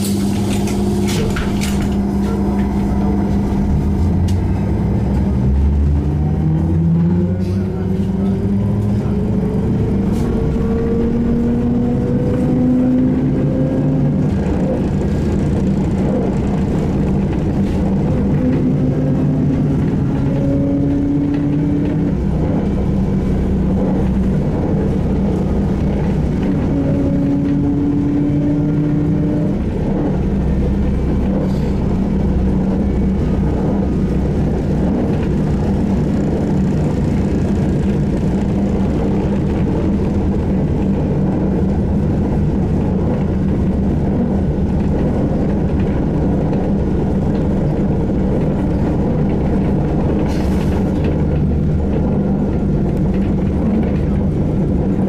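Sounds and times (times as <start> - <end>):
road rumble: 0.0 - 55.0.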